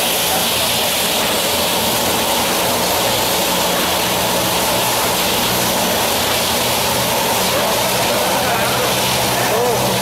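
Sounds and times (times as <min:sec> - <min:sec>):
veneer lathe peeling log: 0:00.0 - 0:10.0.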